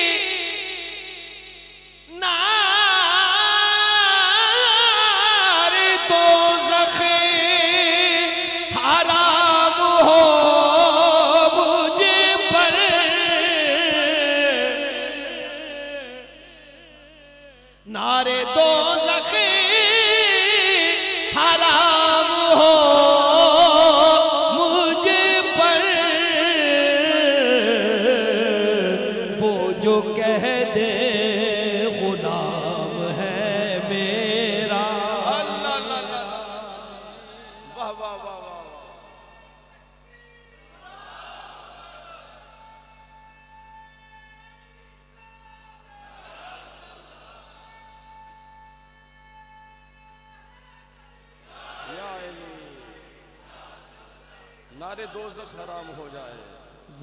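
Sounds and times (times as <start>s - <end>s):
man singing with vibrato: 0.0s - 40.9s, 42.0s - 53.4s.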